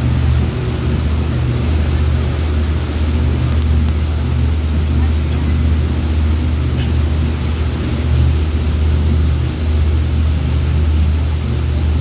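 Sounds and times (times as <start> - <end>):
motorboat engine droning: 0.0 - 12.0
water churning: 0.0 - 12.0.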